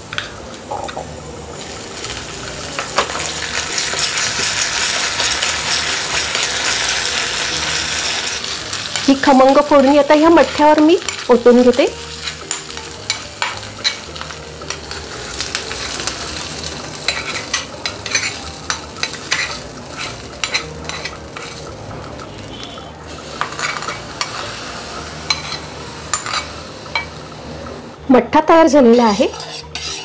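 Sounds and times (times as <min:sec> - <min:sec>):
hot oil sizzling: 0:00.0 - 0:30.0
metal spoon scraping a pan: 0:03.6 - 0:27.2, 0:28.7 - 0:30.0.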